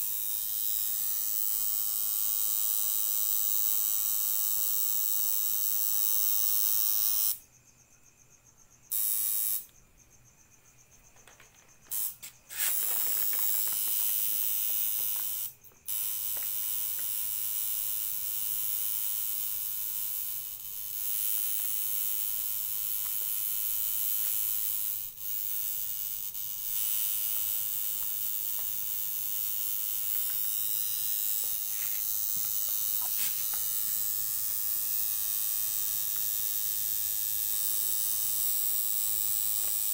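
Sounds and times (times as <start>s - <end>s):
tattoo machine buzzing: 0.0s - 7.5s, 8.9s - 9.8s, 11.2s - 39.9s.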